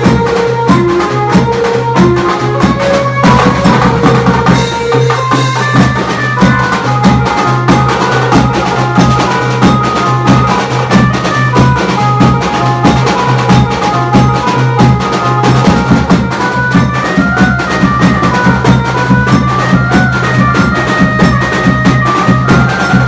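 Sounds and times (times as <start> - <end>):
band playing dance music: 0.0 - 23.0
fast drumming: 0.0 - 23.0.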